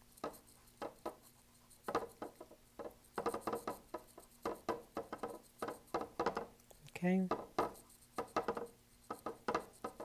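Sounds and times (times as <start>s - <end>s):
paintbrush tapping on canvas: 0.2s - 6.5s, 7.3s - 10.0s.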